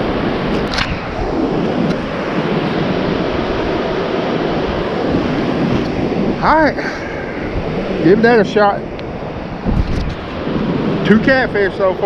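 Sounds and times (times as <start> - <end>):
ocean surf washing on beach: 0.0 - 12.0
wind rumbling on microphone: 0.0 - 12.0.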